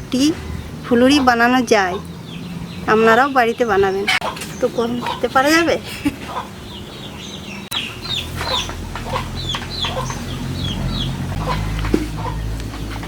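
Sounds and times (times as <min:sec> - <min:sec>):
chickens clucking: 0:00.0 - 0:13.0
steady low hum: 0:00.0 - 0:13.0.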